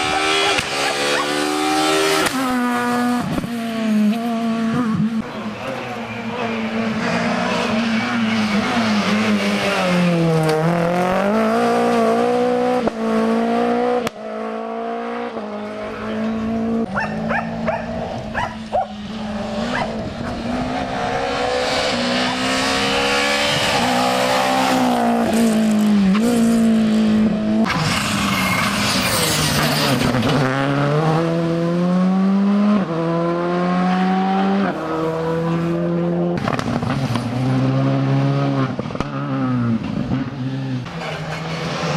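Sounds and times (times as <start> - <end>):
rally car engine accelerating: 0.0 - 41.9.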